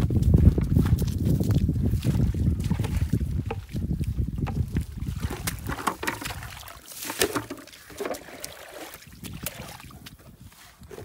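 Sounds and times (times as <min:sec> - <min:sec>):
splashing in shallow muddy water: 0:00.1 - 0:11.0.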